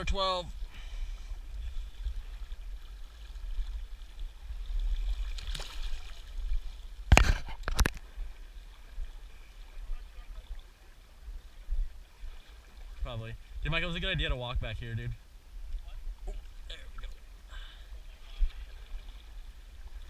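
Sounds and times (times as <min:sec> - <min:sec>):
river water running: 0:00.0 - 0:20.0.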